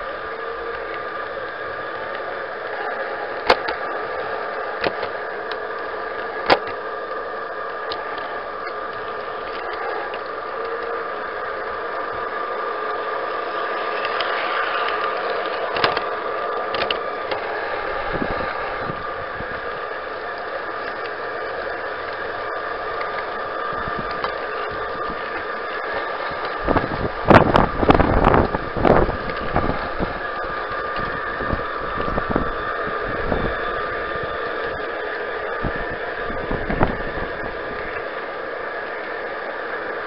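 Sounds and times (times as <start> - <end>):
model train motor whine: 0.0 - 40.0
wheel rumble: 0.0 - 40.0.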